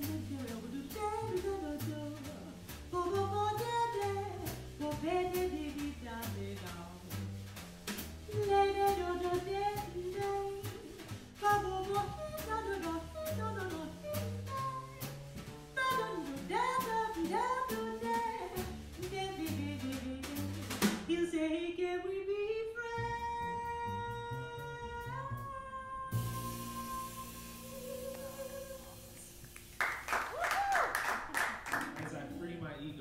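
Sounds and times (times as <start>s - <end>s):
woman singing into microphone: 0.0s - 7.0s, 8.4s - 15.0s, 15.8s - 29.4s
plucked upright bass: 0.0s - 21.1s, 22.8s - 29.8s
drum kit with cymbals: 0.0s - 21.3s, 23.0s - 33.0s.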